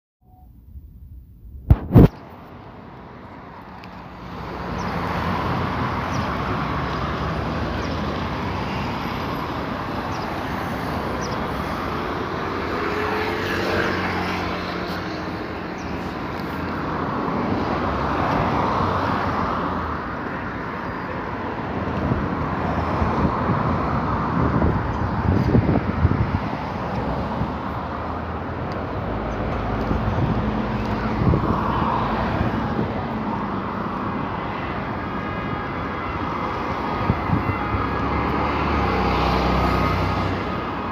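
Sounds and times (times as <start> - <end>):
road traffic passing: 1.7 - 40.9.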